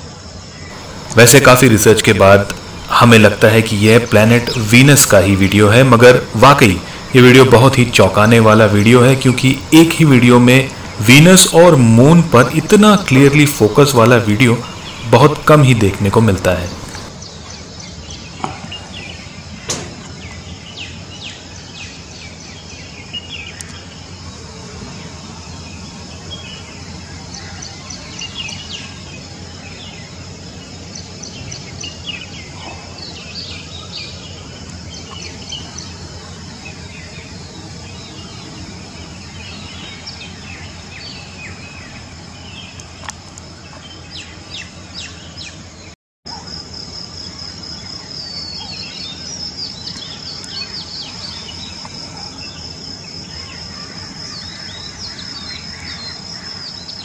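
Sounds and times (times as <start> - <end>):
high insect trill: 0.0 - 57.0
small birds chirping: 0.0 - 57.0.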